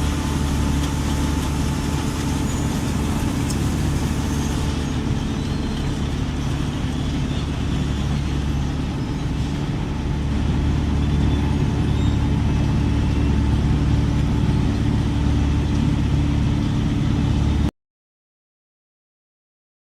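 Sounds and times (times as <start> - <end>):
diesel engine droning: 0.0 - 17.7.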